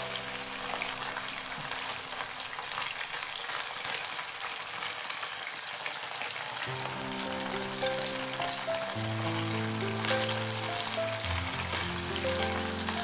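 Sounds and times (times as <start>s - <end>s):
shrimp sizzling in frying pan: 0.0s - 13.0s.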